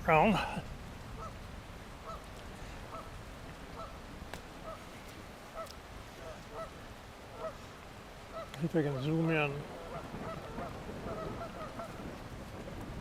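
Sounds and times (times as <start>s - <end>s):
rushing water and rain: 0.0s - 13.0s
distant geese honking: 1.2s - 1.4s, 2.0s - 12.4s.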